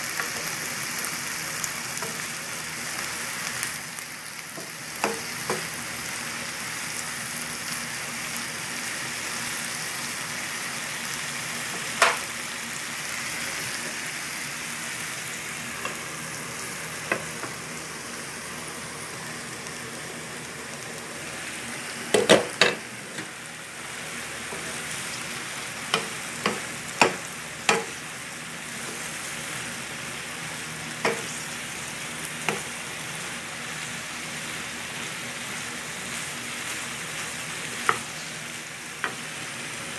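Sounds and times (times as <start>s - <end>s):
squash sizzling in oil: 0.0s - 39.9s.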